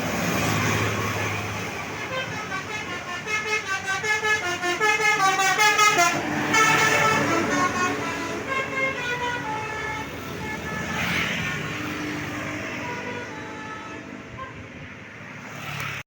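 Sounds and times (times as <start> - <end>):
multi-tone bus horn tune: 0.7 - 14.9.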